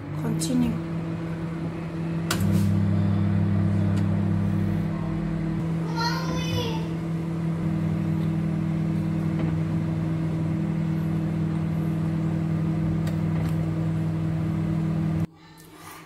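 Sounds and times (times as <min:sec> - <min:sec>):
microwave oven humming: 0:00.0 - 0:15.3.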